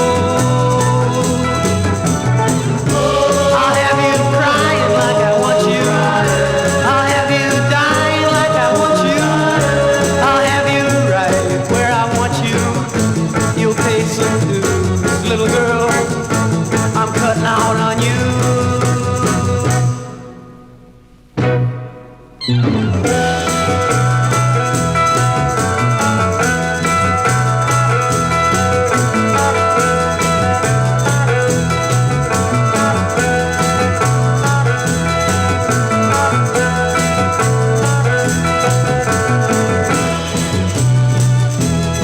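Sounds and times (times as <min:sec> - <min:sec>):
drums at a steady beat: 0:00.0 - 0:20.4, 0:22.8 - 0:42.0
bass guitar: 0:00.0 - 0:42.0
electric guitar: 0:00.0 - 0:42.0.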